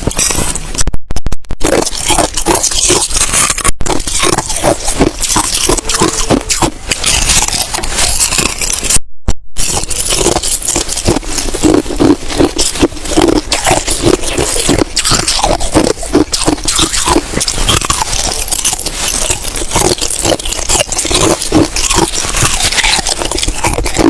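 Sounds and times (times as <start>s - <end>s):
ice being chewed: 0.0s - 0.6s, 1.6s - 9.0s, 9.6s - 24.0s.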